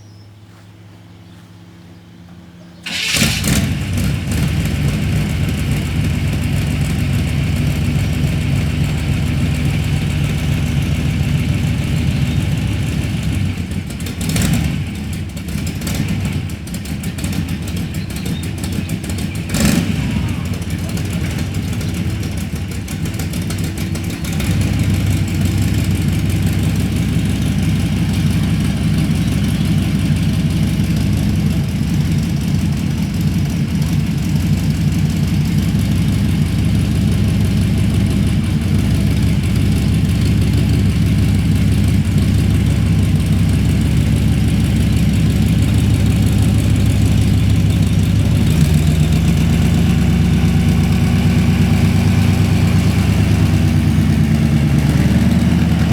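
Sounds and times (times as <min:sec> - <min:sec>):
vehicle engine idling: 0:00.0 - 0:55.9.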